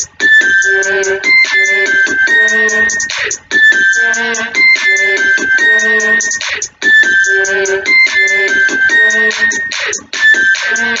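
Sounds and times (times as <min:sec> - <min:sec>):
held keyboard tones music: 0:00.0 - 0:11.0.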